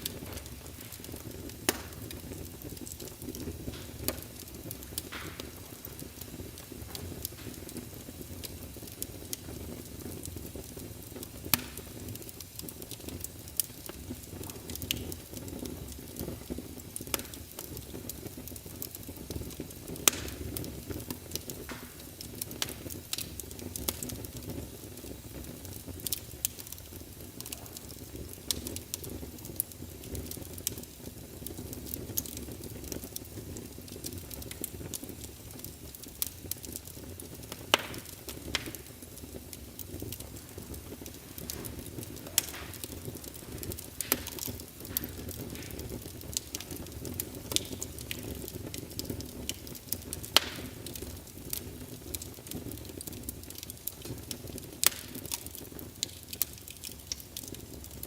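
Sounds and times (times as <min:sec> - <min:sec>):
sharp pops and snaps of fire: 0:00.0 - 0:58.0
wood fire crackling: 0:00.0 - 0:58.0.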